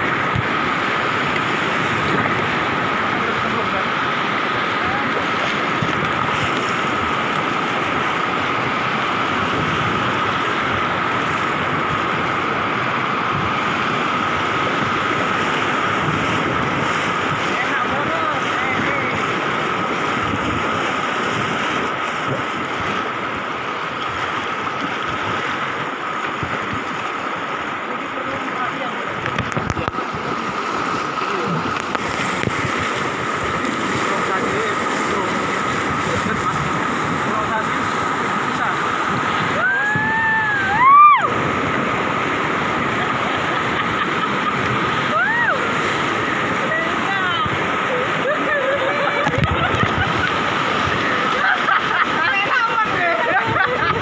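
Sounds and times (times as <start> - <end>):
wind buffeting microphone: 0.0 - 27.6, 28.7 - 54.0
whitewater rushing: 0.0 - 54.0.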